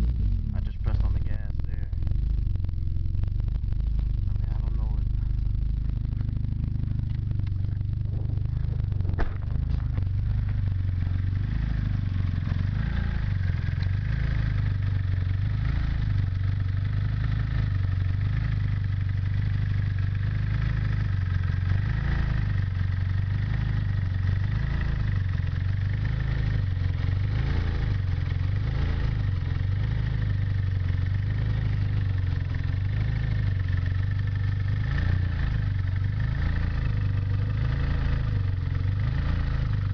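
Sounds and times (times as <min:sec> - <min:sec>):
car engine idling unevenly: 0:00.0 - 0:39.9.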